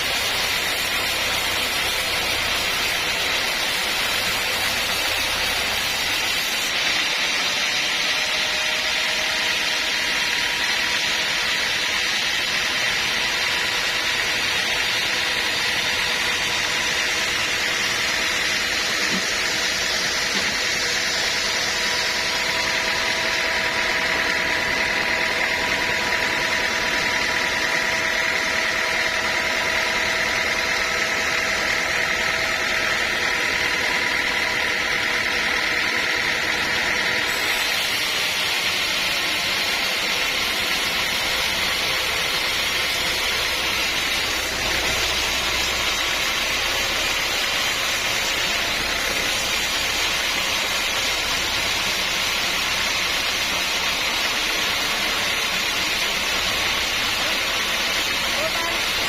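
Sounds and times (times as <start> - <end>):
engine-driven saw running: 0.0 - 59.0.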